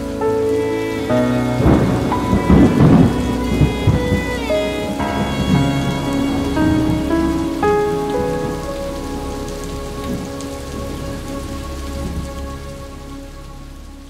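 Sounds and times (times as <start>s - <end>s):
held instrumental notes: 0.0s - 13.2s
steady rain falling: 0.0s - 14.0s.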